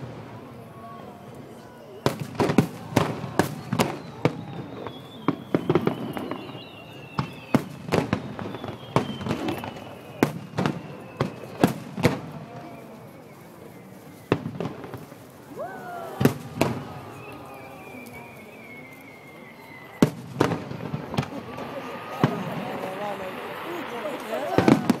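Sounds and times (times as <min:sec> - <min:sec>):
rising firework whistle: 0:00.8 - 0:25.0.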